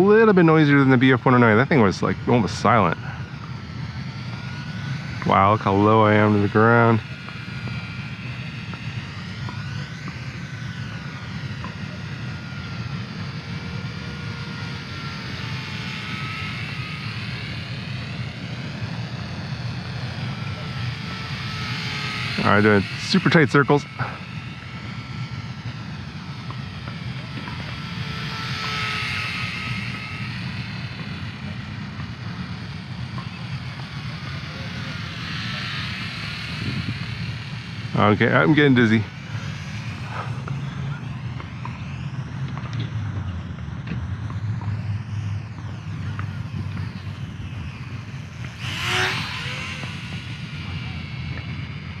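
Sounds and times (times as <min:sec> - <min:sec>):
model plane propeller whining: 0:00.0 - 0:52.0.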